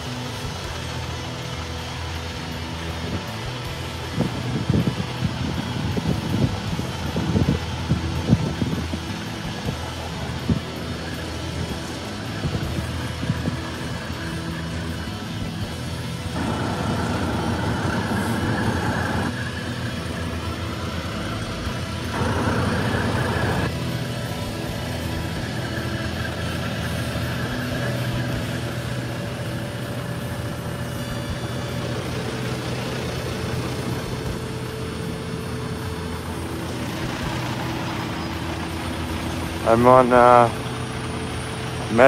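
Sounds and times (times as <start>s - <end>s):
diesel trucks driving past: 0.0s - 42.0s.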